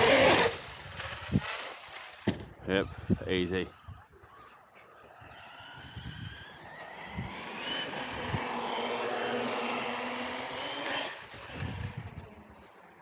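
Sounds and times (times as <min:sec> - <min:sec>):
electric motor whining: 0:00.0 - 0:02.2, 0:02.9 - 0:12.9.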